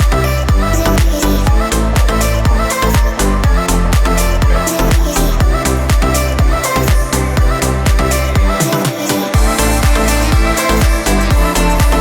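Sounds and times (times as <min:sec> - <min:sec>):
electronic dance music: 0:00.0 - 0:12.0
held synth notes: 0:00.0 - 0:12.0
kick-drum beat: 0:00.0 - 0:12.0.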